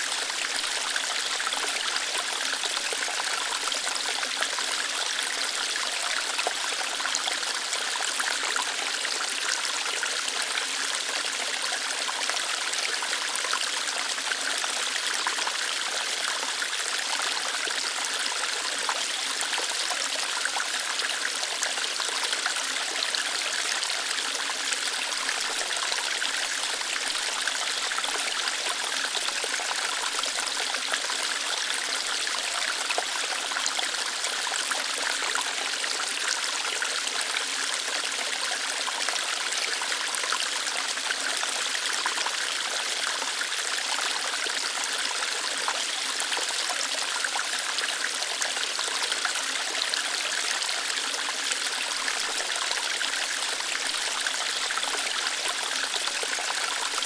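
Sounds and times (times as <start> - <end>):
small waterfall over rocks: 0.0 - 57.0.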